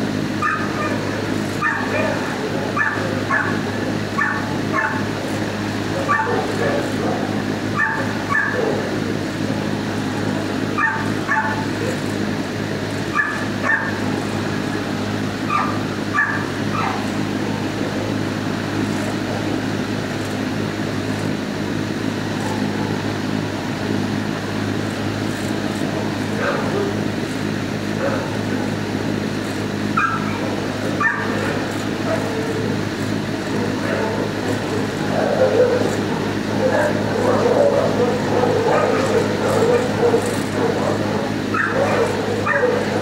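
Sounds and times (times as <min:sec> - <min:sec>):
steady low hum: 0:00.0 - 0:43.0
dogs barking: 0:00.3 - 0:20.2, 0:22.2 - 0:23.2, 0:24.7 - 0:43.0.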